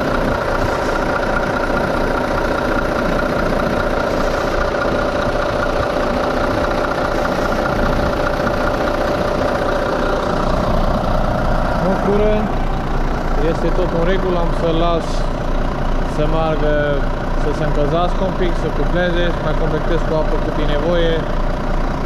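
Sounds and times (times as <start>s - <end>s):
cooling fan turning: 0.0s - 22.0s
diesel engine idling: 0.0s - 22.0s.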